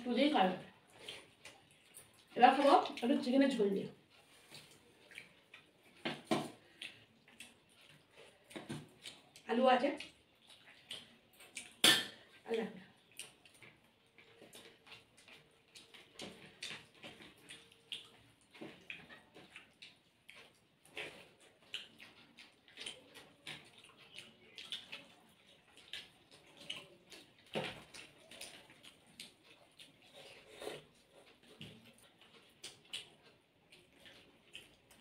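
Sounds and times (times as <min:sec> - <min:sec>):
chewing and lip smacks: 0:00.6 - 0:03.3, 0:03.9 - 0:35.0.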